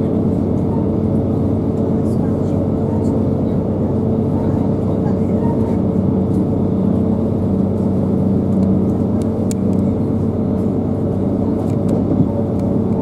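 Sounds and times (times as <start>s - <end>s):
train engine hum: 0.0s - 13.0s.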